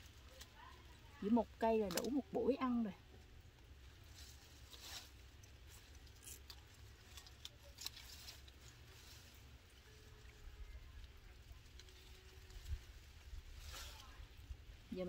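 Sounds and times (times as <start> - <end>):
lettuce leaves rustling: 0.0 - 15.0.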